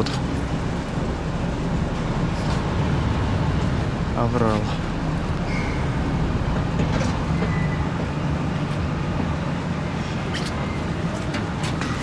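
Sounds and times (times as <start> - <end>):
boat engine running at low speed: 0.0 - 12.0.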